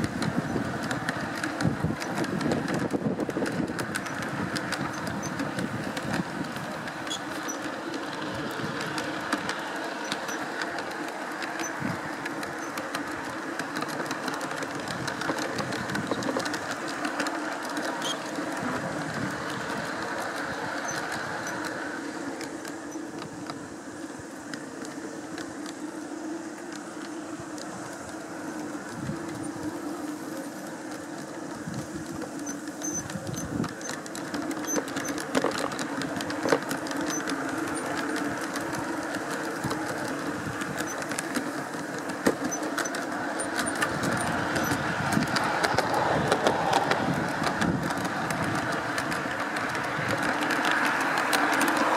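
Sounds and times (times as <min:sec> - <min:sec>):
clicks at rail joints: 0:00.0 - 0:51.9
wheels rumbling on rail: 0:00.0 - 0:51.9.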